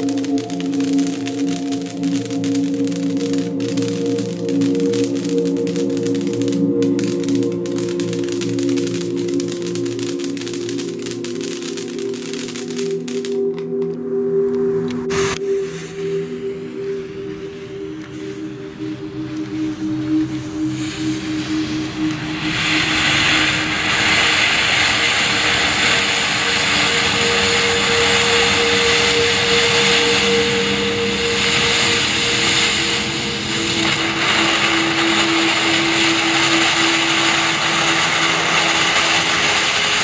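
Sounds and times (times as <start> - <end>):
firework fountain hissing: 0.0 - 13.4, 15.1 - 40.0
slow synth music: 0.0 - 40.0.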